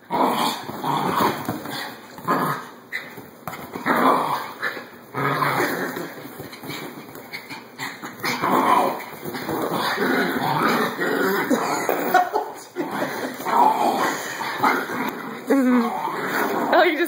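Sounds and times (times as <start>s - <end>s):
small dogs growling: 0.0s - 17.0s.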